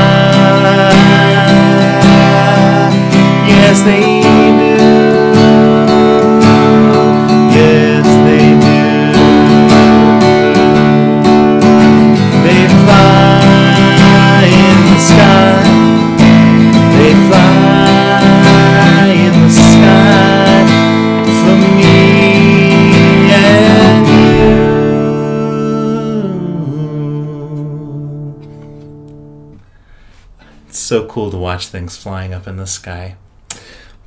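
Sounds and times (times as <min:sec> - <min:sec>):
acoustic guitar strummed: 0:00.0 - 0:31.6.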